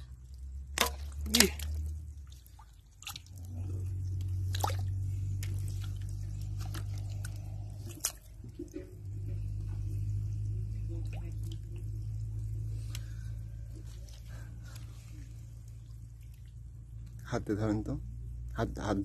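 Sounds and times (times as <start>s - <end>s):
hands squelching in wet mud: 0.0s - 17.2s
steady low rumble: 0.0s - 19.0s.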